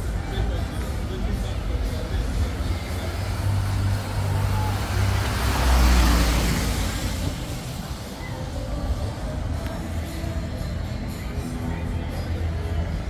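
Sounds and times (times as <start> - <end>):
car passing on wet street: 0.0 - 11.7.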